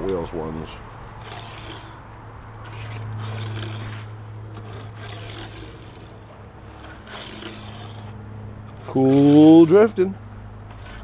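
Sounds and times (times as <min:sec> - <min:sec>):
steady low hum: 0:00.0 - 0:11.0
toy truck wheels rolling on plastic track: 0:00.0 - 0:11.0.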